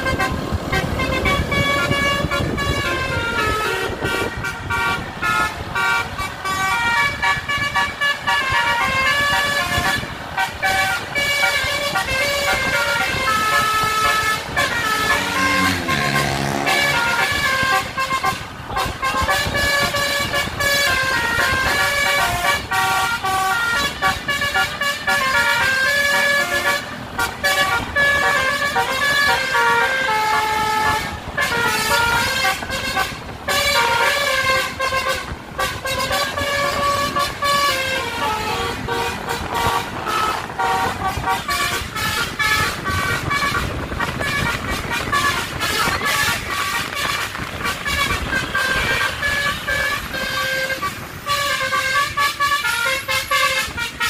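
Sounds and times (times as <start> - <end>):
multi-tone melody horn: 0.0 - 54.0
vehicle noise: 0.0 - 54.0.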